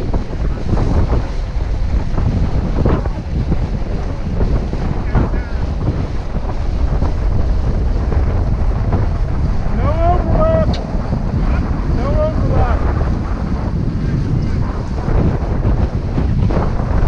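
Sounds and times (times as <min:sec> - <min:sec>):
water washing along hull: 0:00.0 - 0:17.0
wind buffeting microphone: 0:00.0 - 0:17.0.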